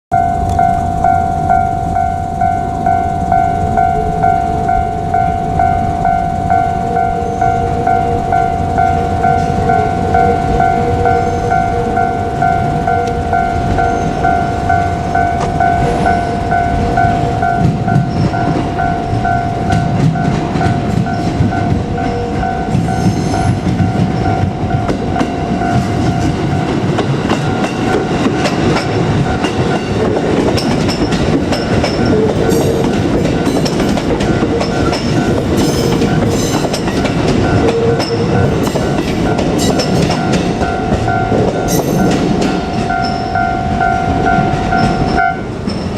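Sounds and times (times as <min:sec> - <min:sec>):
electric train passing: 0:00.1 - 0:45.9
level-crossing alarm ringing: 0:00.1 - 0:45.9
wheel clatter on rails: 0:00.1 - 0:45.9.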